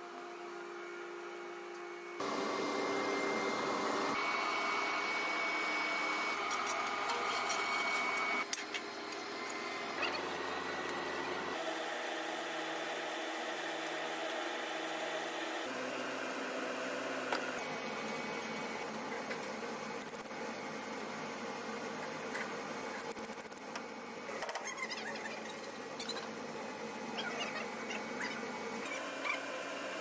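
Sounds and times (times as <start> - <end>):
machinery humming and whirring: 0.1 - 24.6.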